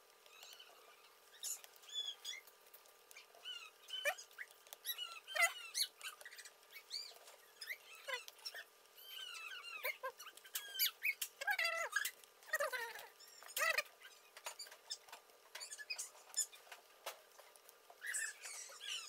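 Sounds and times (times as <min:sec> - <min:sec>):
small animals squeaking: 0:00.2 - 0:19.0.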